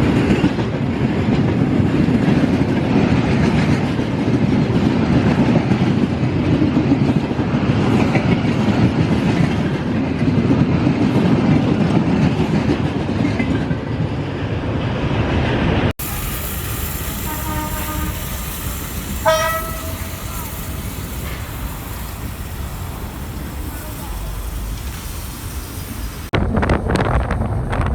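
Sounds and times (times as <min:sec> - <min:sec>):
train rumbling on rails: 0:00.0 - 0:27.9.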